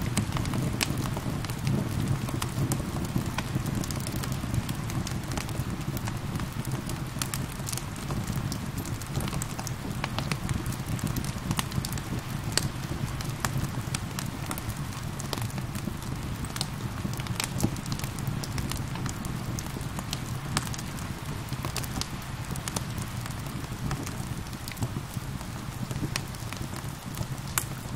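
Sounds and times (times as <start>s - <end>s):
falling rain hiss: 0.0s - 27.9s
wood fire crackling and popping: 0.0s - 27.9s.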